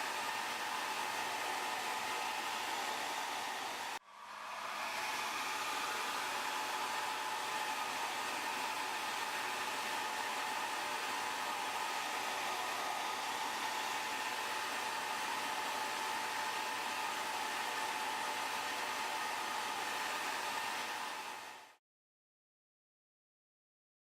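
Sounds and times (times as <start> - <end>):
hairdryer blowing: 0.0 - 21.8.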